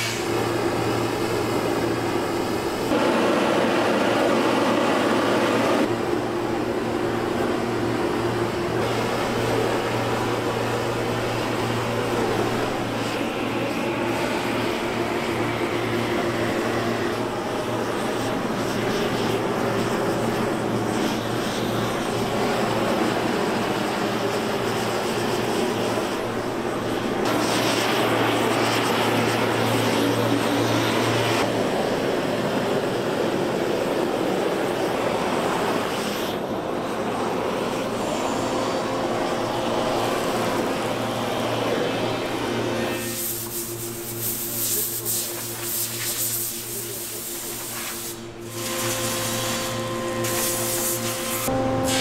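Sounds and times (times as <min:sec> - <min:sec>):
propane torch roaring hiss: 0:00.0 - 0:52.0.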